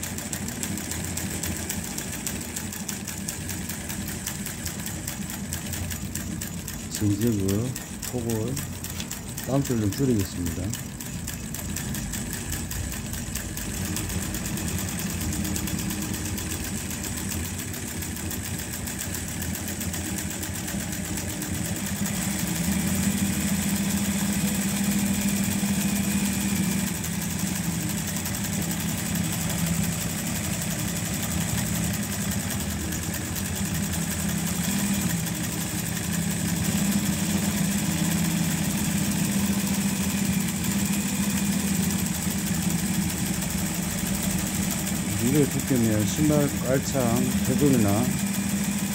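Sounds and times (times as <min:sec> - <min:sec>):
sewing machine stitching: 0:00.0 - 0:48.9.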